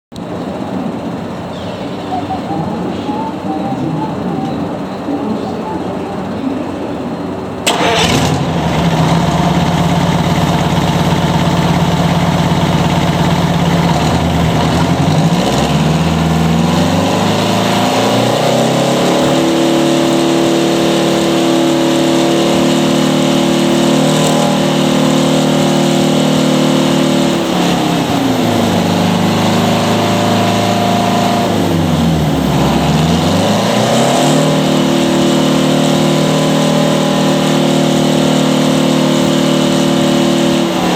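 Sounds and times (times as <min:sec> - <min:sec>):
diesel engine starting and idling: 0:00.2 - 0:40.9.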